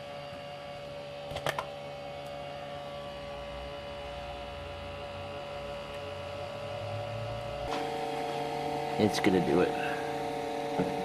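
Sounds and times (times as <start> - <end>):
printer fans humming and whining: 0.0 - 11.0.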